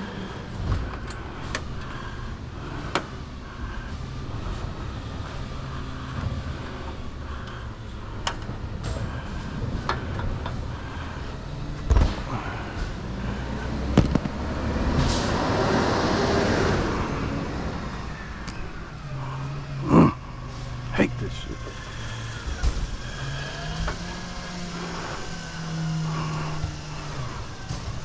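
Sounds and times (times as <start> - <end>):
traffic engine hum: 0.0 - 28.0
vehicle passing: 0.0 - 28.0.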